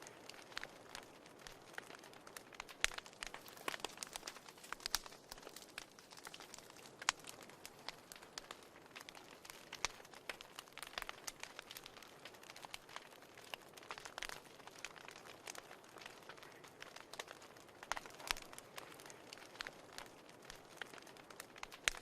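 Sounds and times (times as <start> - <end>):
soft steady hiss: 0.0 - 22.0
wood fire crackling and popping: 0.0 - 22.0.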